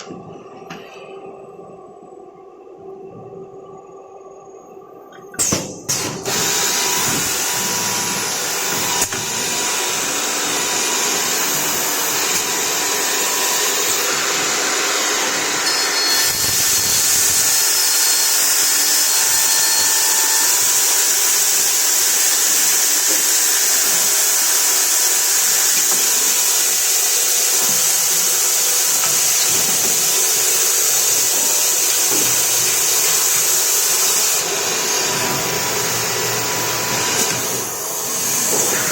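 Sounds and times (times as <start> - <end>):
drilling machine whine and hiss: 5.4 - 38.9.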